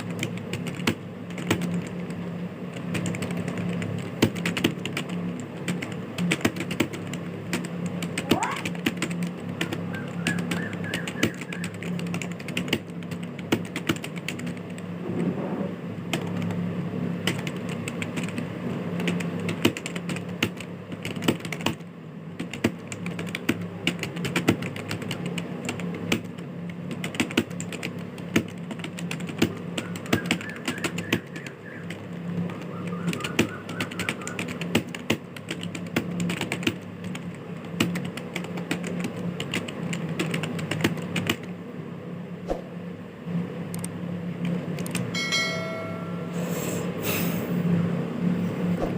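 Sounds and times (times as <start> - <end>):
fast keyboard typing: 0.0 - 14.9, 16.1 - 16.6, 17.2 - 41.5, 44.4 - 45.1
steady low hum: 0.0 - 48.9.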